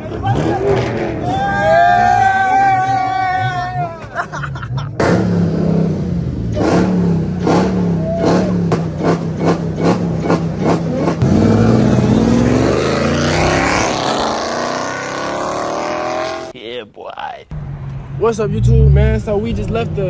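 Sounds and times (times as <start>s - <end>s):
car engine accelerating: 0.0s - 16.5s, 17.5s - 20.0s.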